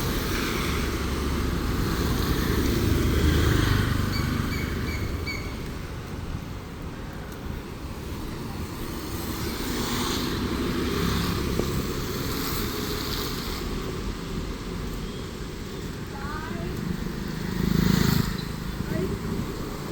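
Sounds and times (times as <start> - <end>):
vehicles passing: 0.0 - 19.9.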